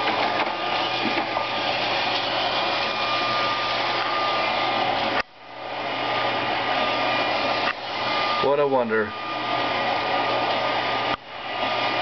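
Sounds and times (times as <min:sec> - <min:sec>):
robot vacuum running: 0:00.0 - 0:12.0.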